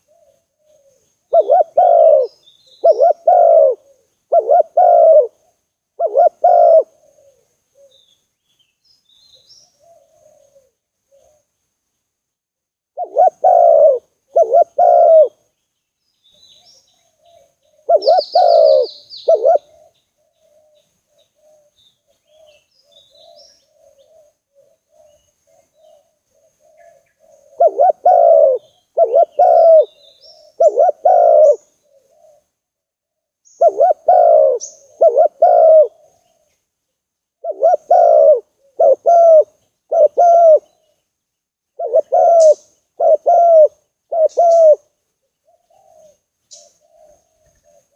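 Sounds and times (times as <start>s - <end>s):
dove cooing: 0.0s - 8.1s, 9.4s - 11.5s, 13.0s - 15.4s, 16.5s - 32.6s, 33.5s - 36.6s, 37.4s - 41.0s, 41.8s - 47.9s
small birds chirping: 0.0s - 12.2s, 13.0s - 32.6s, 33.4s - 47.9s.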